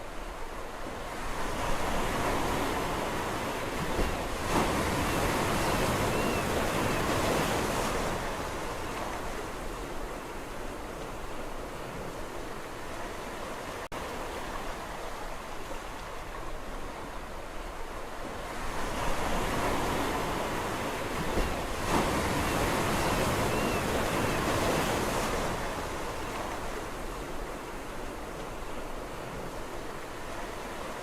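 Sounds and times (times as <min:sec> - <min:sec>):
sea waves washing on shore: 0:00.0 - 0:31.0.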